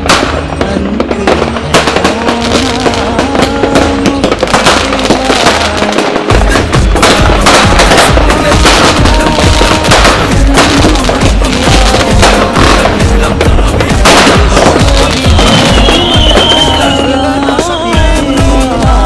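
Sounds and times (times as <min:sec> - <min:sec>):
firecrackers crackling: 0:00.0 - 0:19.0
heavy bass beat: 0:00.0 - 0:19.0
loud music with melody: 0:00.0 - 0:19.0.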